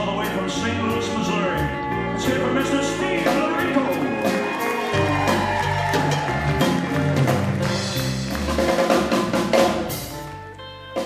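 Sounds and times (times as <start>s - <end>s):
drum kit: 0.0s - 11.0s.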